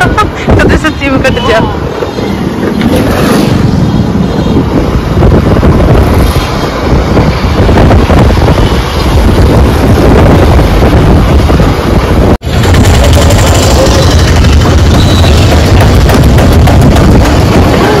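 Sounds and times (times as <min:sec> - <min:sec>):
vehicle and road noise: 0:00.0 - 0:18.0
wind buffeting microphone: 0:00.0 - 0:18.0.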